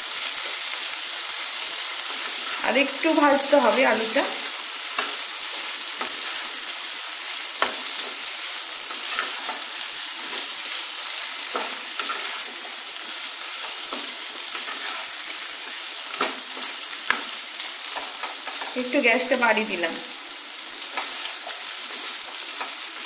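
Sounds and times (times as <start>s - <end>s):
potatoes sizzling in oil: 0.0s - 23.0s.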